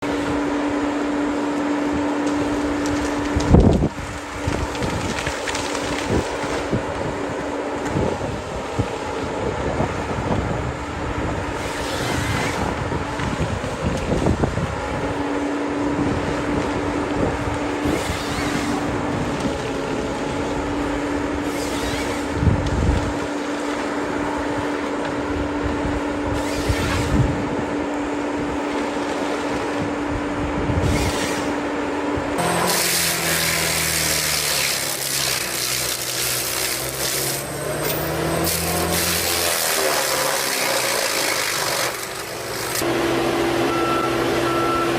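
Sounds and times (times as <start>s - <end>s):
heavy machinery engines: 0.0s - 44.9s.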